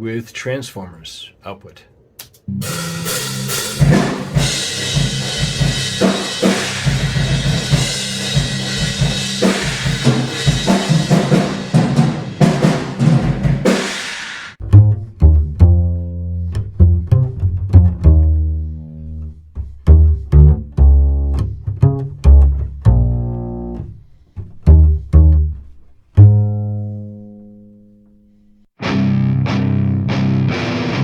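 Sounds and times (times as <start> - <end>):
upright bass plucked: 2.5 - 11.3, 14.6 - 31.0.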